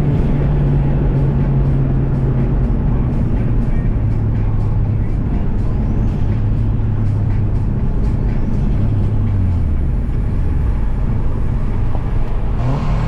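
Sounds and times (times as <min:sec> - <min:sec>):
engine pulling hard: 0:00.0 - 0:13.0
road noise: 0:00.0 - 0:13.0.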